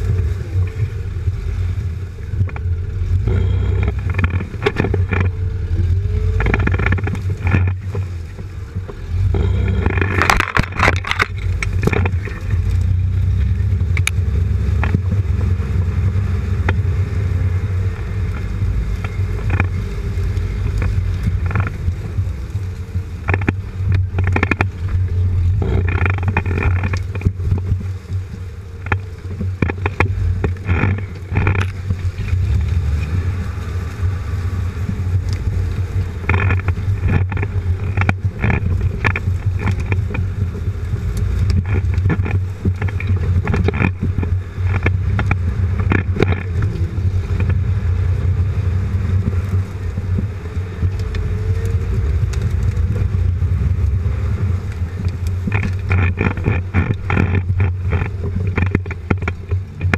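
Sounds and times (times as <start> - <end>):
low engine drone: 0.0 - 59.9
suspension knocks and rattles: 0.0 - 59.9.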